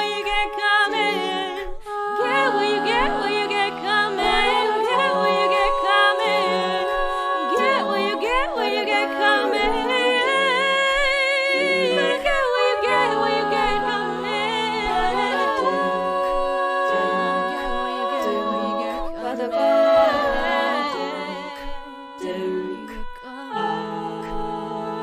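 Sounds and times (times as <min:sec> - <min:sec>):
a cappella group singing harmonies: 0:00.0 - 0:25.0.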